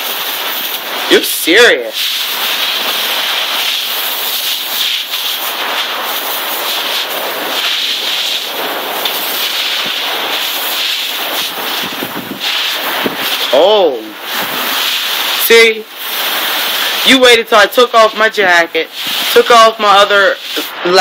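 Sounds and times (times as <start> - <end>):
hose spraying water on ground: 0.0 - 21.0.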